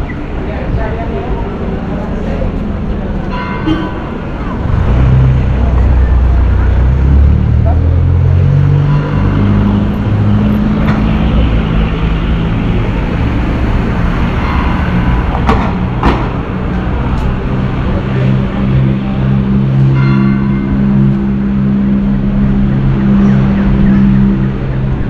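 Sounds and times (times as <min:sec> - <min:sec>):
street noise: 0:00.0 - 0:25.0
vehicle engine humming: 0:00.0 - 0:25.0.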